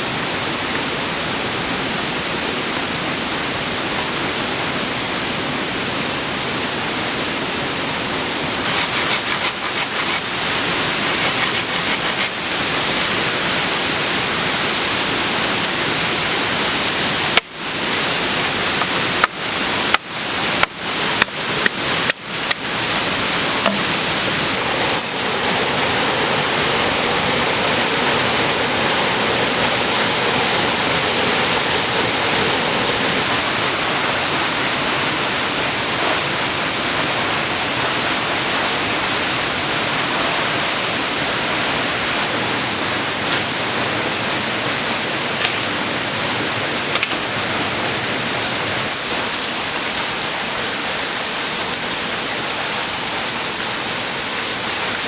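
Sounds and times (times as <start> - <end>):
falling water rushing: 6.0 - 55.0.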